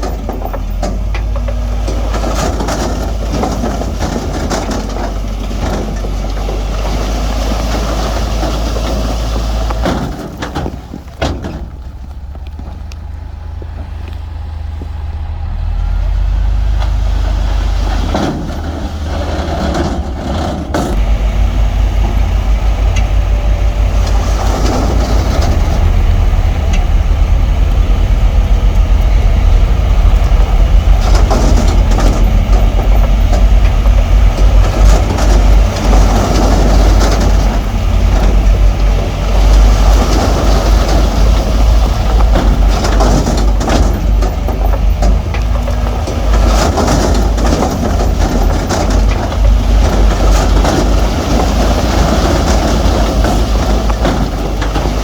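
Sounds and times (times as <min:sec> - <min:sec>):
knocks and clatters: 0:00.0 - 0:13.9, 0:16.6 - 0:55.0
heavy diesel machinery engines: 0:00.0 - 0:55.0
pulsing engine rumble: 0:00.0 - 0:55.0.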